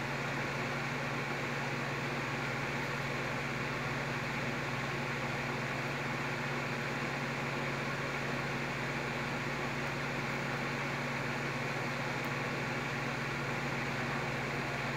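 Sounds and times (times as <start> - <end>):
electric fan running: 0.0 - 14.9.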